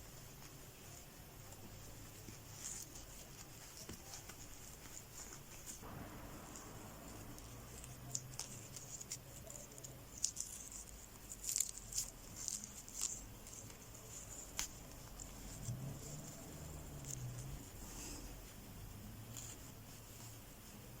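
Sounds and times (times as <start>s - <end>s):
soft rustles: 0.0s - 21.0s.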